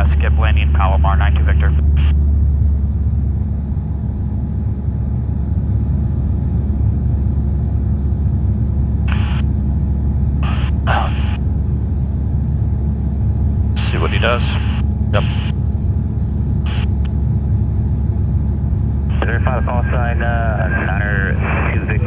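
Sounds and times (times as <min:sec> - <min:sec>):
aircraft engine and propeller droning: 0:00.0 - 0:22.0.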